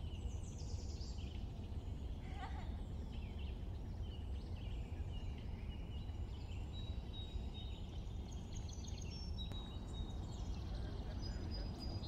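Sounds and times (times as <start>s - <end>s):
low background rumble: 0.0s - 12.0s
small birds chirping and whistling: 0.0s - 12.0s.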